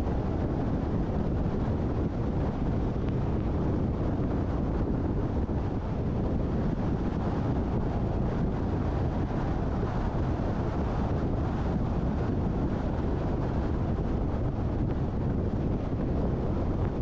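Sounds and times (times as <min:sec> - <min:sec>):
car wind and road rumble: 0:00.0 - 0:17.0.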